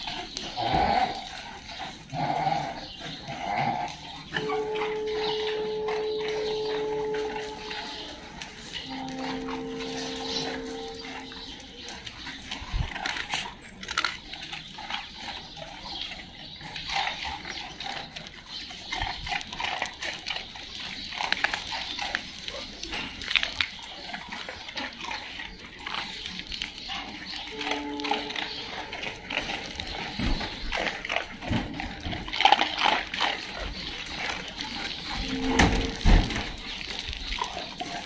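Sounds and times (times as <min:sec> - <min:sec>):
dogs crunching dry kibble: 0:00.0 - 0:38.0.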